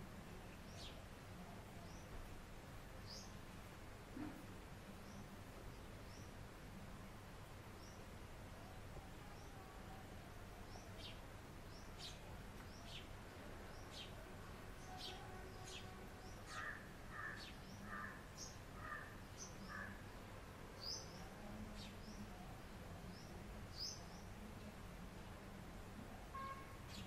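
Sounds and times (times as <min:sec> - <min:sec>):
sparrows chirping: 0:00.2 - 0:06.6, 0:07.6 - 0:27.0.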